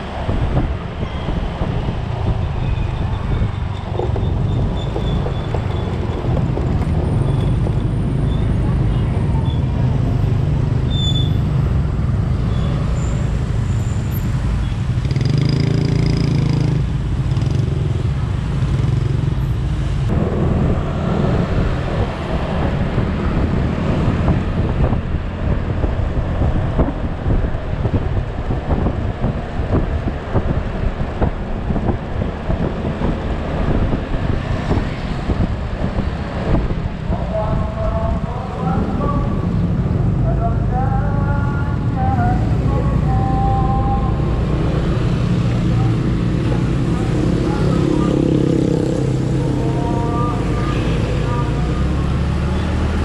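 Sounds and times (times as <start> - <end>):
scooter engine and road noise: 0.0 - 53.0.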